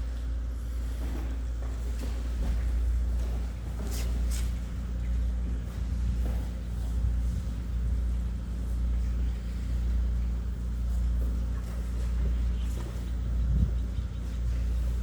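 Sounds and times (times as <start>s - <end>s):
machinery droning: 0.0s - 15.0s.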